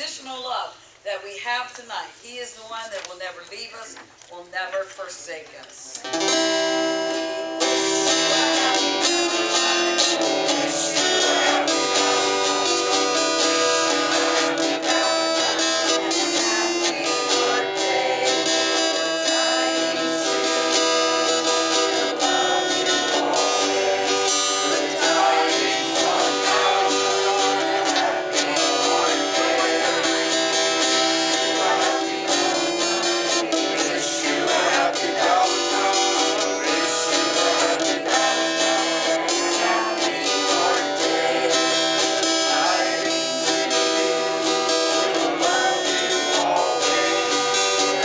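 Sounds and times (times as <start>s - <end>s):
acoustic guitar strumming: 6.0s - 48.0s
woman singing: 7.6s - 48.0s.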